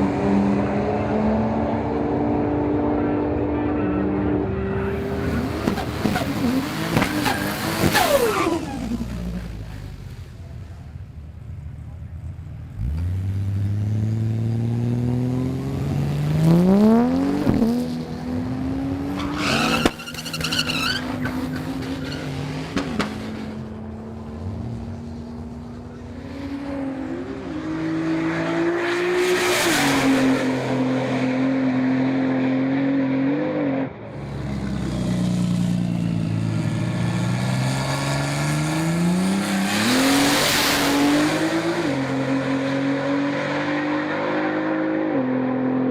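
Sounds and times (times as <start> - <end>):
car engine revving: 0.0 - 10.0, 12.7 - 45.9.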